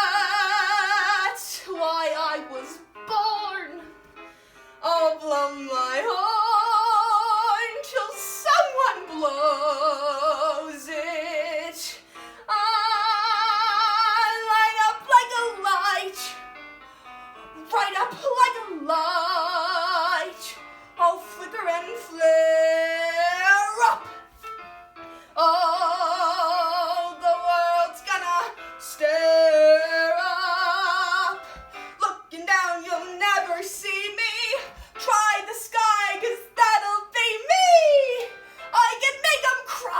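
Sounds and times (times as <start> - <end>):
woman singing with vibrato: 0.0 - 4.0, 4.8 - 16.4, 17.6 - 24.1, 25.4 - 39.9
musical accompaniment: 0.0 - 39.9.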